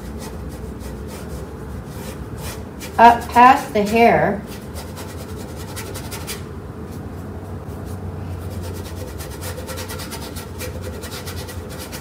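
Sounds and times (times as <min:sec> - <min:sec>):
paintbrush scrubbing on canvas: 0:00.0 - 0:12.0
steady low hum: 0:00.0 - 0:12.0.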